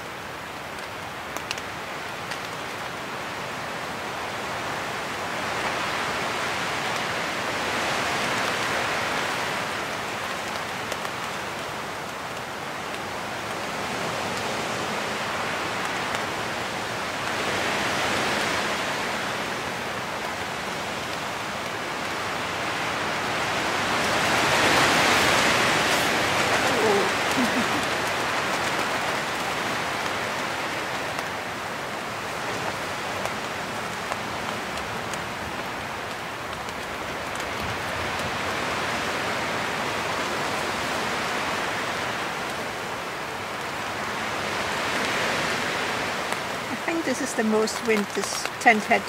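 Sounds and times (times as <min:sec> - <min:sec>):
rain on tent: 0:00.0 - 0:49.0
wind gusting through trees: 0:00.0 - 0:49.0.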